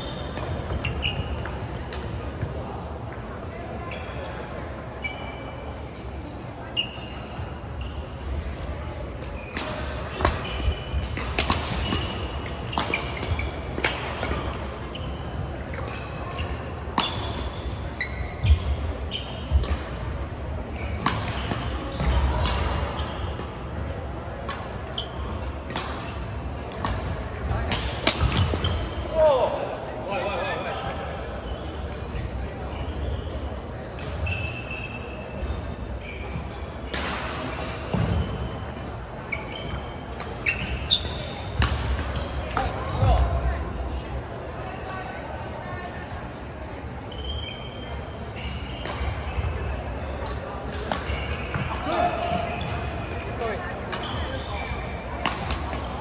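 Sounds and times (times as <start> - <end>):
shoes squeaking on wooden court: 0.0 - 3.2, 3.8 - 5.8, 6.7 - 8.4, 9.1 - 23.8, 24.4 - 29.4, 30.6 - 43.3, 46.8 - 56.0.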